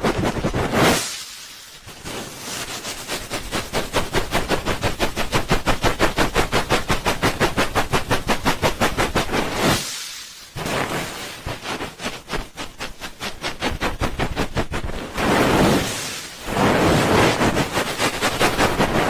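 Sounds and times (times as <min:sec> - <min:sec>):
hands rubbing over microphone: 0:00.0 - 0:01.1, 0:01.9 - 0:09.9, 0:10.6 - 0:19.0.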